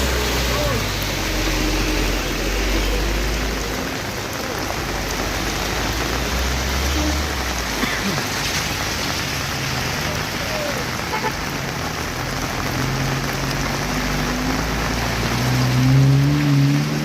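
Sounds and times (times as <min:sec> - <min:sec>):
rain-like hiss: 0:00.0 - 0:17.0.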